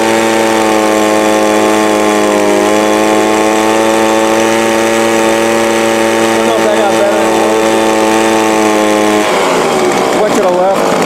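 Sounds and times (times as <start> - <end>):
leaf blower engine at high revs: 0.0 - 11.0.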